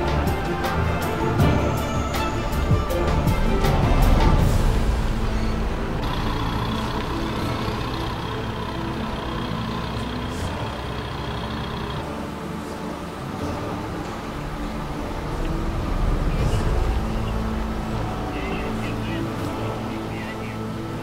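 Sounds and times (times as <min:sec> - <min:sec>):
lorry engine running: 0:00.0 - 0:21.0
telehandler diesel engine: 0:00.0 - 0:21.0.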